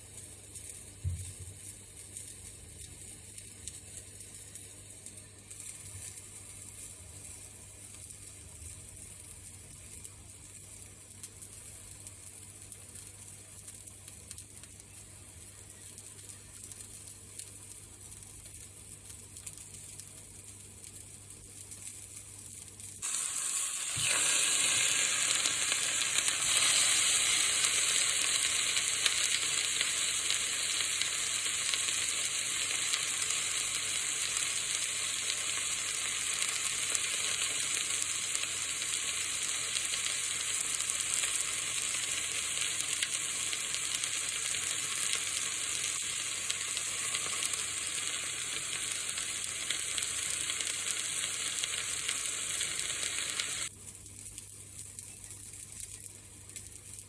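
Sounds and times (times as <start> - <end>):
food sizzling in hot fat: 0.0 - 57.0.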